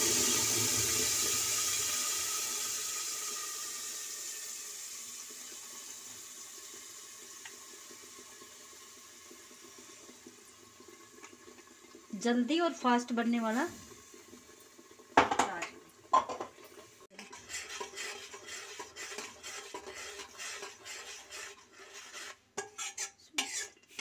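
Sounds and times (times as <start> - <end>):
tomato puree sizzling in oil: 0.0 - 24.0.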